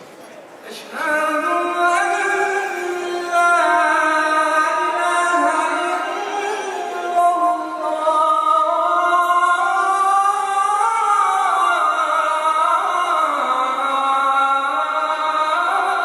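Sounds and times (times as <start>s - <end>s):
person chanting call to prayer: 0.6s - 16.0s.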